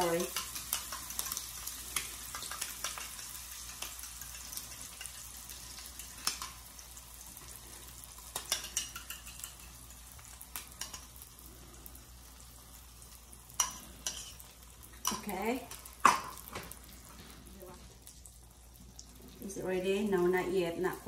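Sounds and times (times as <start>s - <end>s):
eggs sizzling in a skillet: 0.0s - 21.0s.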